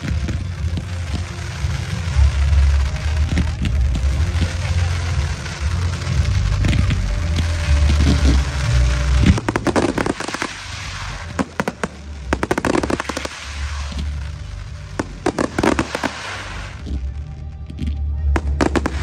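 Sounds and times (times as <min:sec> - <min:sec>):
fireworks bangs and crackle: 0:00.0 - 0:19.0.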